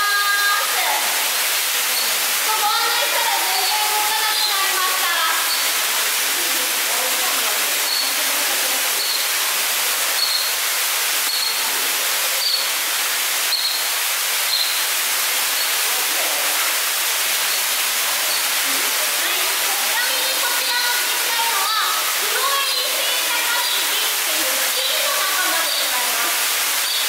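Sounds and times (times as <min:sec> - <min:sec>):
running water rushing: 0:00.0 - 0:27.0.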